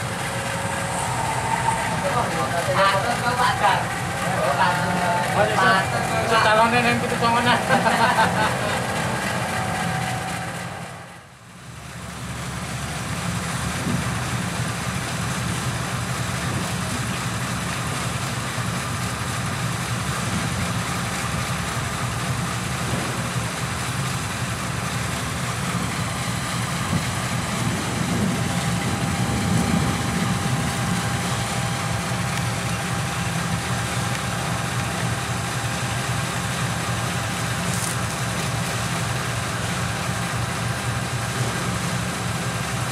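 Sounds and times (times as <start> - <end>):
diesel locomotive idling: 0.0 - 42.9.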